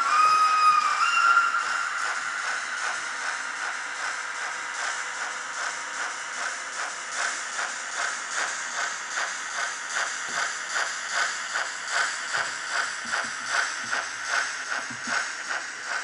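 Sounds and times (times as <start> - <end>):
model train rhythmic clatter: 0.0 - 16.0.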